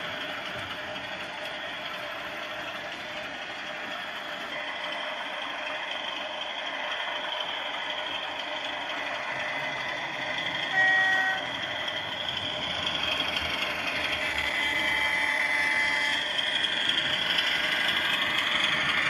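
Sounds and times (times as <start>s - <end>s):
model diesel engine running: 0.0s - 19.0s.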